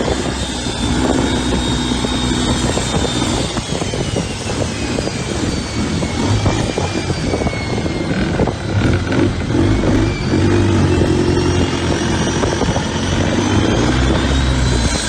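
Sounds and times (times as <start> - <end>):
boat diesel engine running: 0.0 - 15.0
thin high whine: 0.0 - 15.0.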